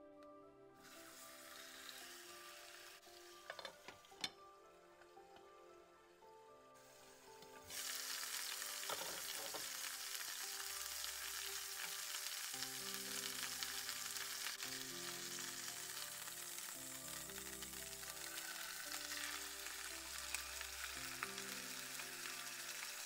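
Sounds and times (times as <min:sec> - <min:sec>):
chicken sizzling in hot oil: 0:00.8 - 0:04.2, 0:06.7 - 0:23.0.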